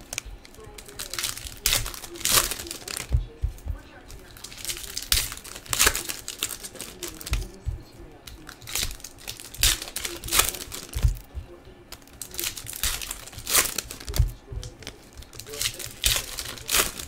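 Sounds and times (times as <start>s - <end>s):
foil wrappers crinkling and tearing: 0.0s - 17.0s.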